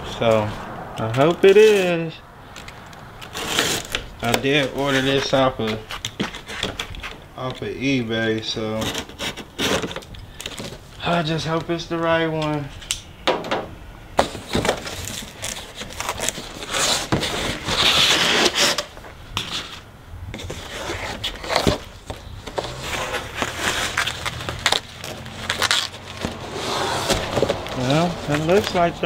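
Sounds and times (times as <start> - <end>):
cardboard rustling and scraping: 2.6 - 11.6, 14.2 - 29.0.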